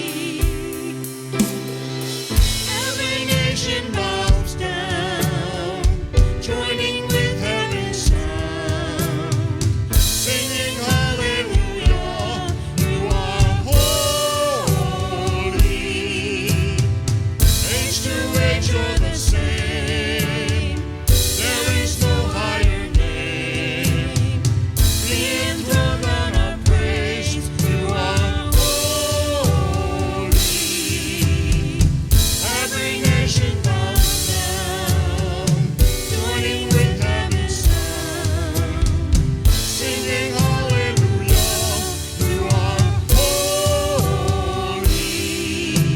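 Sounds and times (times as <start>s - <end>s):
drum kit beat: 0.0s - 45.9s
voices singing worship music: 0.0s - 45.9s.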